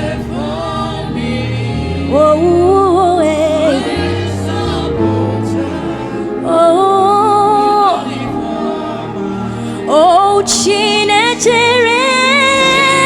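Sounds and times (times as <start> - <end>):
gospel singing with instruments: 0.0 - 13.0.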